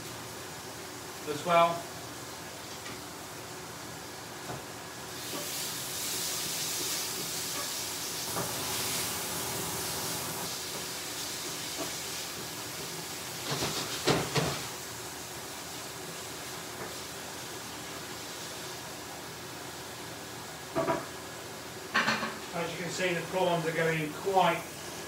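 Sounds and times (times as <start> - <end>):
prawns sizzling in a pan: 0.0 - 25.0.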